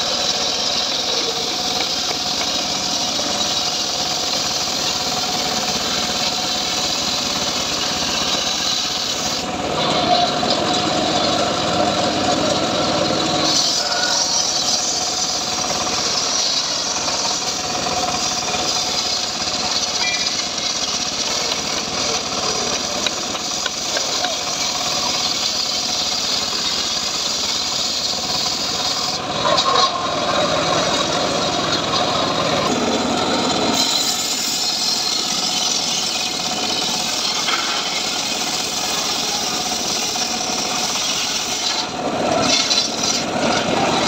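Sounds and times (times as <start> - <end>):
circular saw ripping wood: 0.0 - 44.0.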